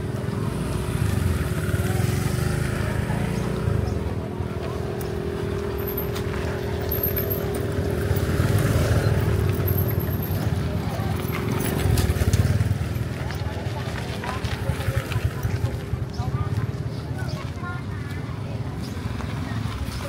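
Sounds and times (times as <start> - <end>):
motor engine running: 0.0 - 20.0.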